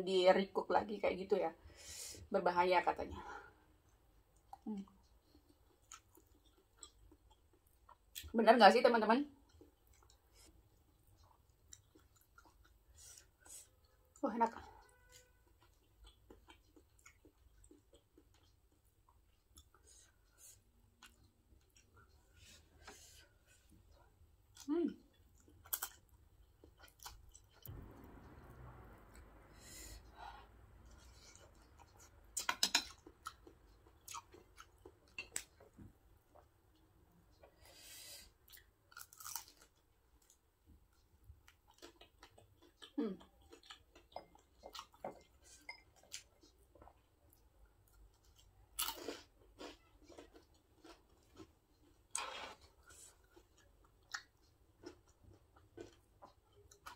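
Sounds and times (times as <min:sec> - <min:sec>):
person chewing and slurping noodles: 0:03.8 - 0:08.1, 0:09.4 - 0:27.8, 0:30.6 - 0:36.5, 0:37.2 - 0:56.9.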